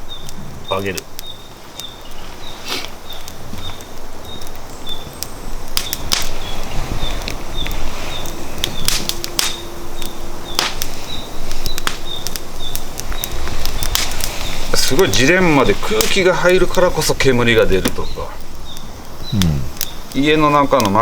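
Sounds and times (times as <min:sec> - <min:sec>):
firewood crackling and popping: 0:00.0 - 0:21.0
insect chirping: 0:00.0 - 0:21.0.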